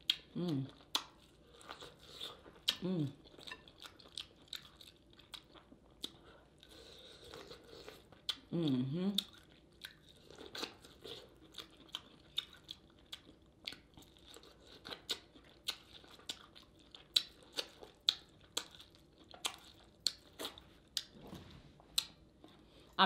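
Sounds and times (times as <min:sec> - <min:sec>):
wet chewing and lip smacking: 0:00.0 - 0:22.9.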